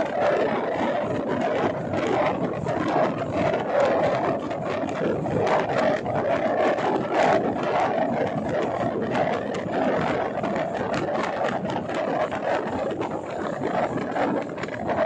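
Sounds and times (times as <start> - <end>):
rattles and clicks: 0.0 - 15.0
train wheels rumbling on rail: 0.0 - 15.0.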